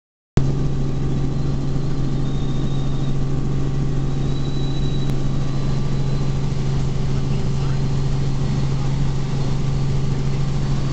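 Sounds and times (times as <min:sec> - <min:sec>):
helicopter engine and rotors drone: 0:00.4 - 0:10.9.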